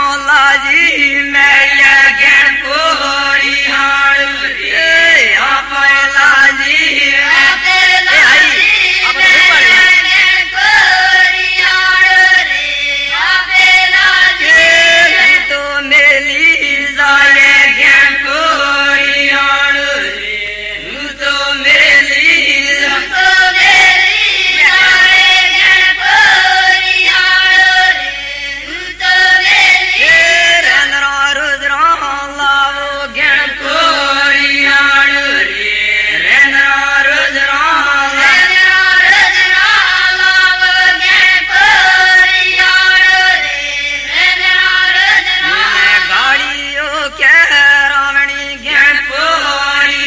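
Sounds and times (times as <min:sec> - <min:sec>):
women singing in unison: 0:00.0 - 0:50.0.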